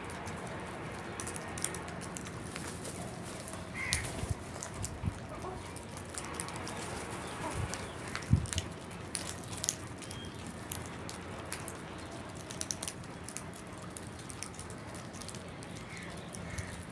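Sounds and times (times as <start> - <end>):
crows pecking and tapping: 0.1 - 16.9.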